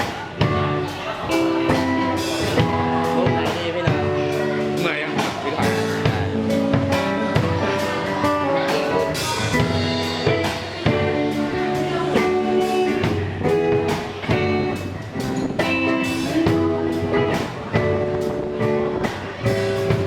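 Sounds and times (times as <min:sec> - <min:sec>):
drum kit beat: 0:00.0 - 0:20.0
electric guitar notes and chords: 0:00.0 - 0:20.0.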